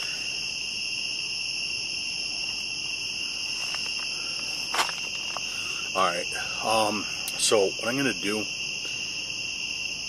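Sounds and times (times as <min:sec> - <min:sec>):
night insects chorus: 0:00.0 - 0:10.0.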